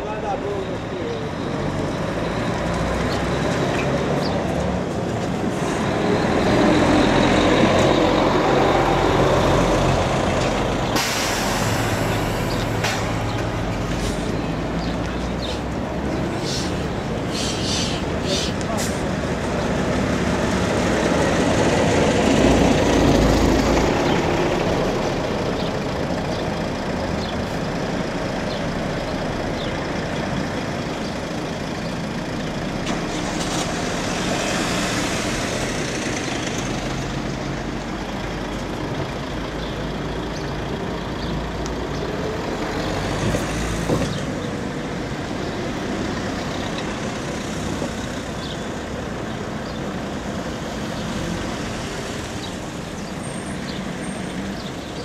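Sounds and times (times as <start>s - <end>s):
traffic noise: 0.0s - 55.0s
vehicles driving past: 0.0s - 55.0s
coach diesel engine passing: 0.1s - 55.0s.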